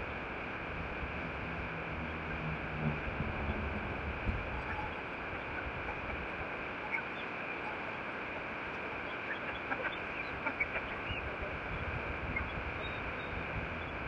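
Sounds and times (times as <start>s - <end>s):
mountain river rushing: 0.0s - 13.5s.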